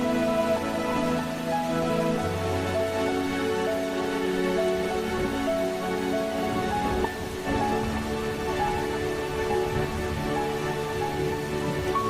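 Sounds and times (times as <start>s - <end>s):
soft ambient music: 0.0s - 12.0s
waterfall rushing: 0.0s - 12.0s.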